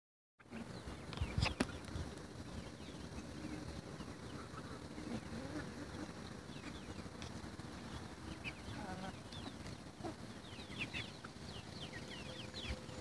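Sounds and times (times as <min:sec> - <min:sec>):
chickens clucking: 0:00.4 - 0:13.0.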